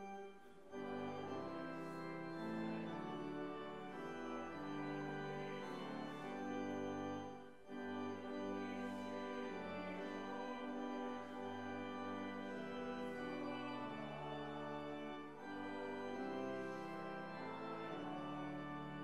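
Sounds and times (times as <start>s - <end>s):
church organ playing hymn chords: 0.0s - 19.0s.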